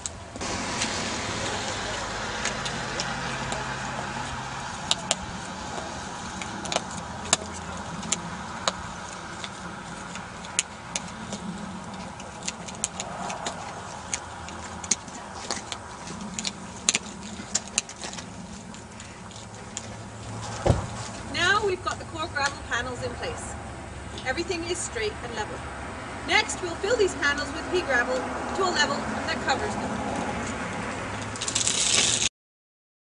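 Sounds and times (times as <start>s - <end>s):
steady low rumble: 0.0s - 31.4s.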